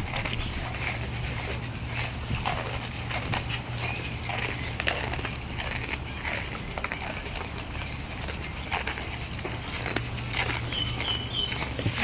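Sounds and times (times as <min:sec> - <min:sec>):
deer crunching dry noodles: 0:00.0 - 0:12.0
steady low hum: 0:00.0 - 0:12.0.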